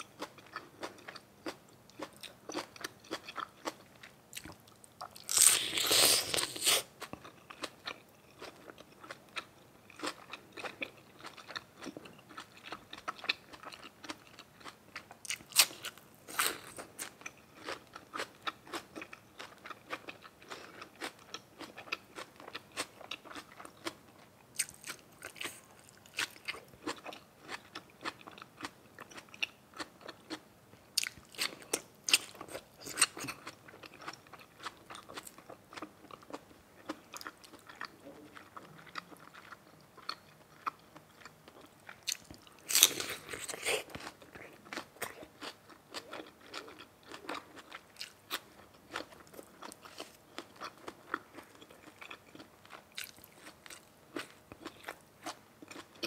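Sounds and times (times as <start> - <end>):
person chewing crunchy food: 0.0 - 30.4, 31.0 - 56.0.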